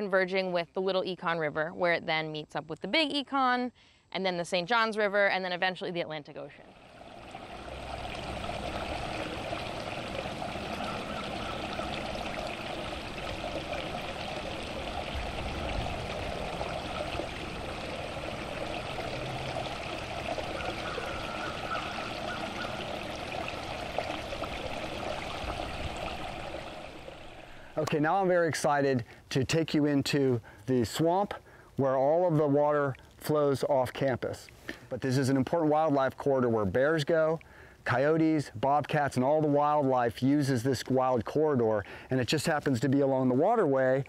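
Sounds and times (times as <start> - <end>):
stream water trickling: 6.6 - 44.0.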